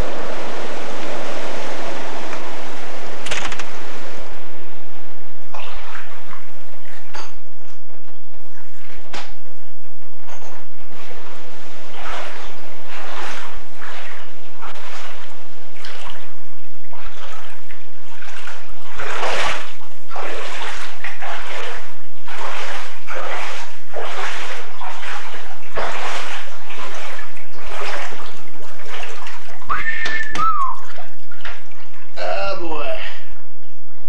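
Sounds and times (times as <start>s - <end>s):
wading through water splashing: 0.0s - 9.8s, 10.6s - 33.0s.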